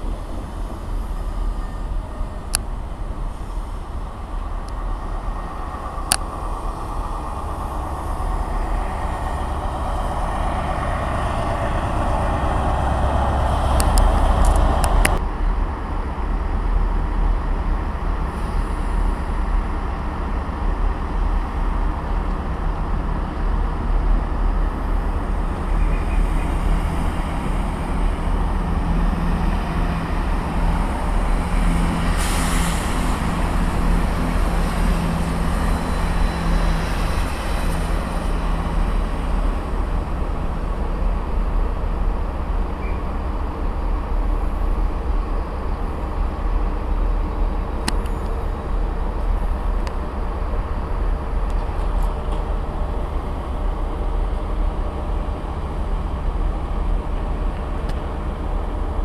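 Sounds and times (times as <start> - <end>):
train wheels on rails: 0.0 - 15.2, 16.9 - 59.0
low engine drone: 0.0 - 59.0.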